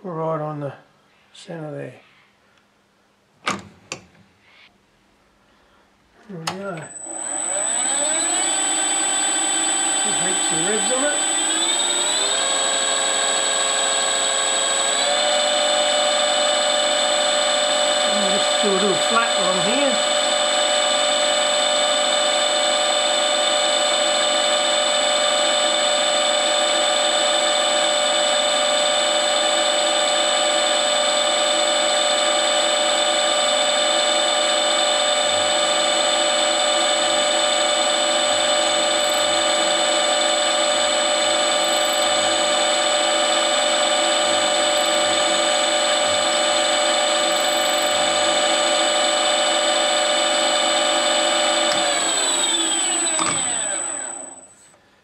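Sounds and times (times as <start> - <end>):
milling machine whine: 6.5 - 54.8.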